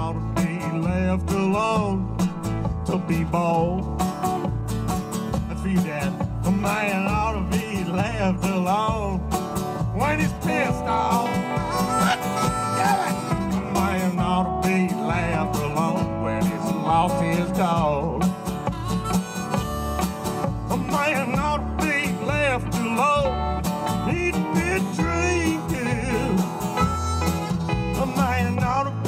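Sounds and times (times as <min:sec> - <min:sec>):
country band playing: 0:00.0 - 0:29.0.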